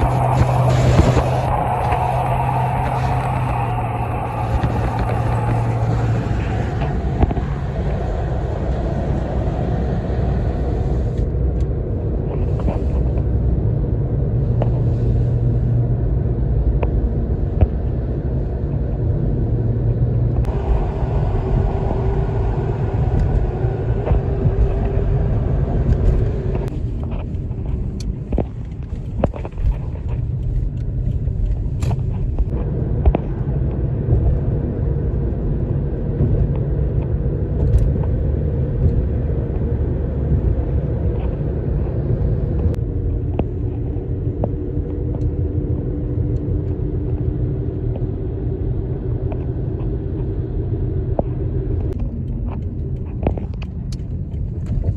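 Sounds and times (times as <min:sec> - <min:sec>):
vehicles driving on highway: 0:00.0 - 0:54.9.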